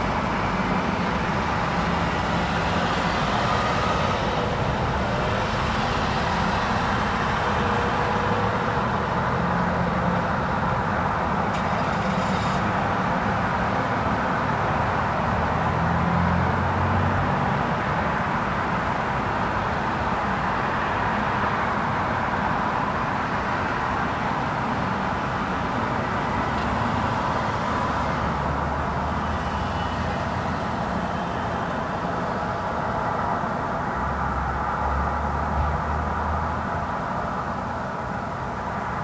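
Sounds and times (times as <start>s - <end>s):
passing cars: 0.0s - 39.0s.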